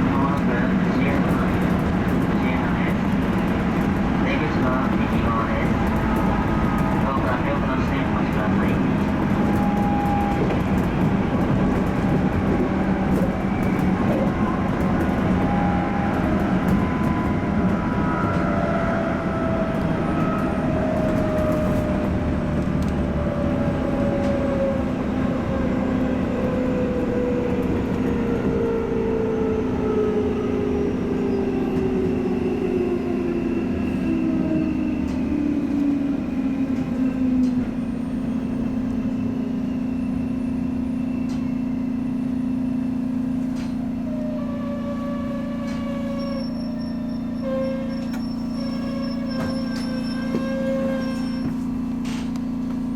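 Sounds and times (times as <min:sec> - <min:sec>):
electric train on rails: 0:00.0 - 0:52.9
train motor whine: 0:09.4 - 0:52.9.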